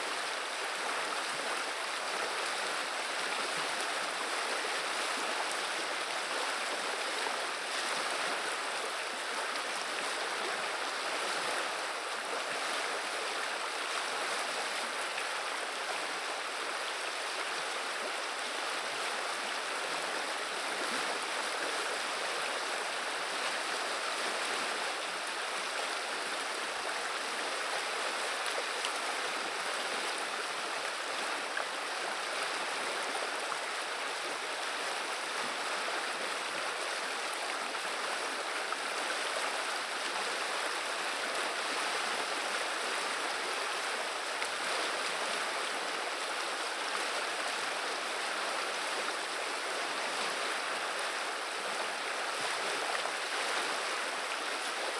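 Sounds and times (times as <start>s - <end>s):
river water babbling: 0.0s - 54.9s.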